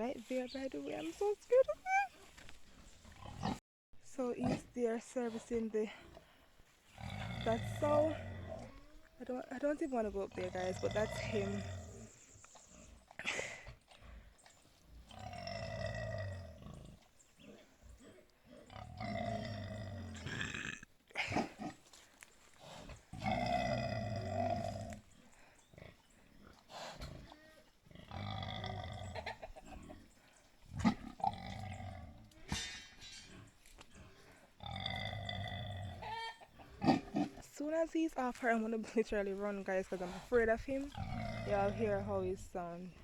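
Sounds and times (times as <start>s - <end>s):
boar grunting: 3.0s - 3.6s, 4.4s - 37.5s, 39.8s - 42.4s.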